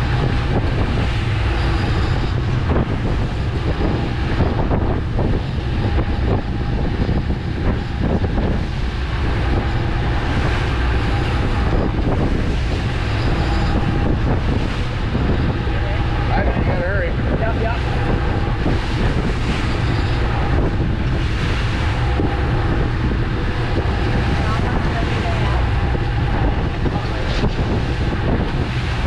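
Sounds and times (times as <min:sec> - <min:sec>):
boat motor running: 0:00.0 - 0:29.0
wind buffeting microphone: 0:00.0 - 0:29.0.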